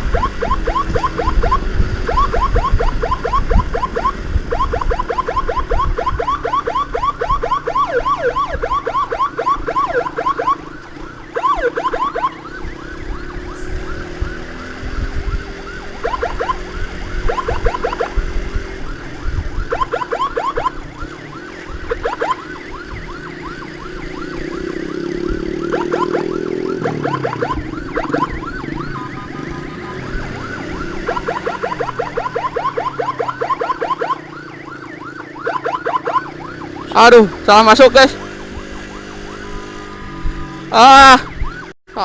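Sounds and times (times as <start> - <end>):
motorcycle engine: 0.0 - 41.7
emergency siren yelping: 0.0 - 42.0.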